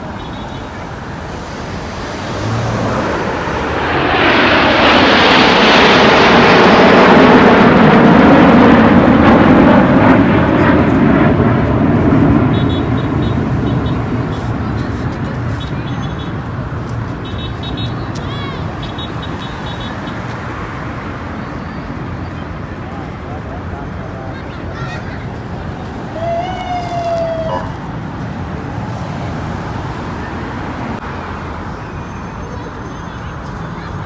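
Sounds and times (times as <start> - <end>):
jet aircraft flying past: 0.0 - 32.7.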